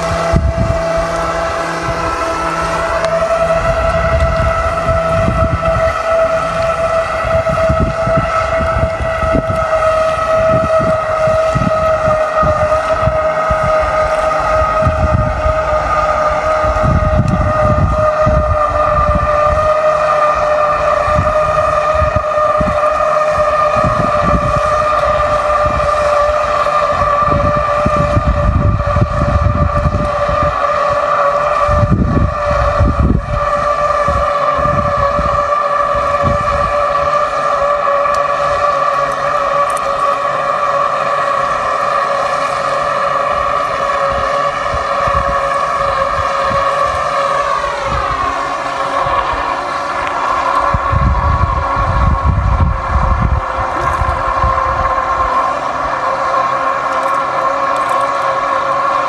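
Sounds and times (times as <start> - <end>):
electric motor whine: 0.0 - 59.0
wind rumbling on microphone: 0.0 - 59.0.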